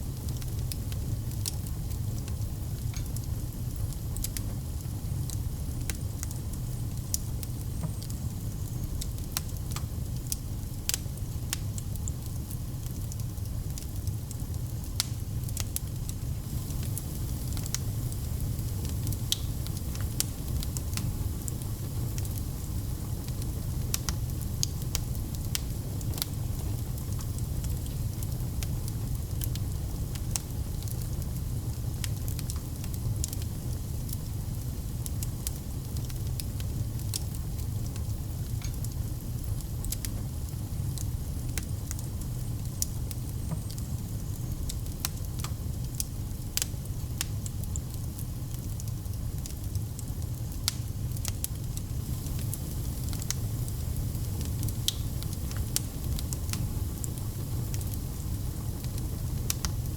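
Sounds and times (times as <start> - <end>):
fire crackling in fireplace: 0.0 - 59.9.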